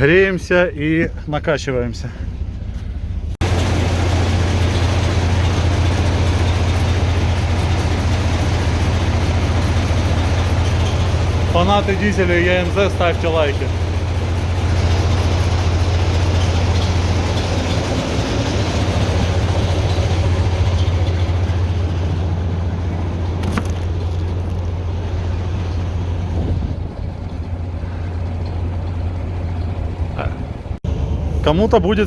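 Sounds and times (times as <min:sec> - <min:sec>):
diesel locomotive engine idling: 0:00.0 - 0:32.0.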